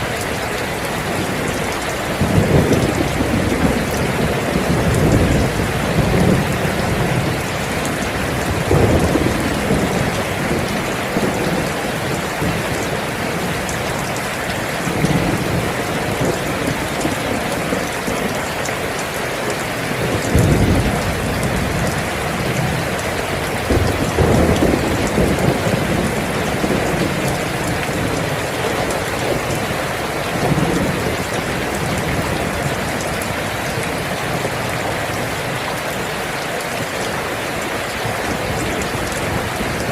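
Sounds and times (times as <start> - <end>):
heavy rain falling: 0.0 - 39.9
thunder rolling: 1.0 - 18.4, 19.9 - 35.4.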